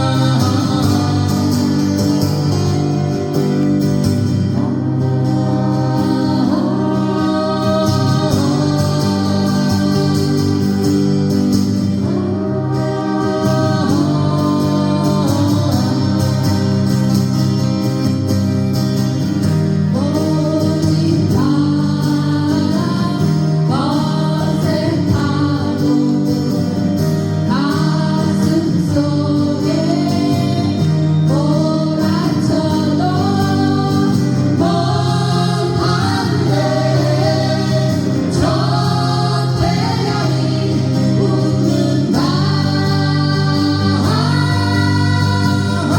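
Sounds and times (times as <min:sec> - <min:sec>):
group singing together: 0:00.0 - 0:18.2, 0:19.8 - 0:45.9
acoustic guitar: 0:00.0 - 0:45.9.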